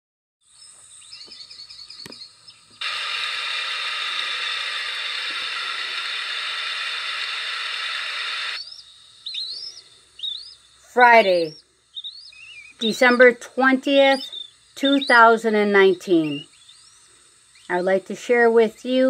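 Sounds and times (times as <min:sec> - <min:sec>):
high bird chirps: 0:00.5 - 0:17.9
loud steady hiss: 0:00.5 - 0:19.0.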